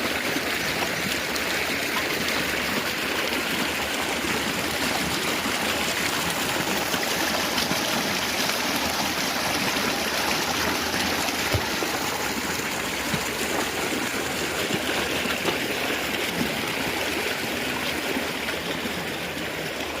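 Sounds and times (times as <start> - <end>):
flowing water: 0.0 - 20.0.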